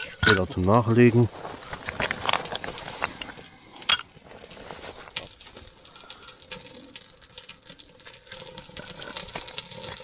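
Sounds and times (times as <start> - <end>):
fire popping and cracking: 0.0 - 10.0
wood fire crackling: 0.0 - 10.0.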